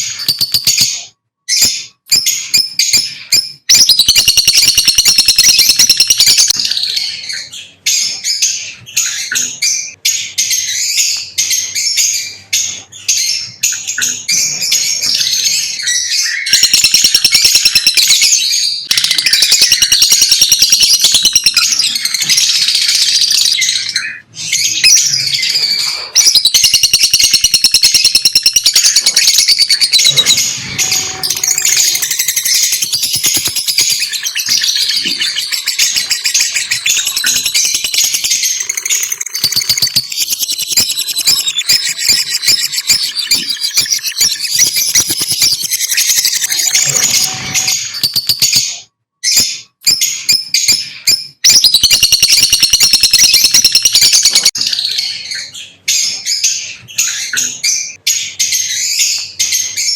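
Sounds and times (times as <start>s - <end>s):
lovebirds chirping and chattering: 0.0s - 59.9s.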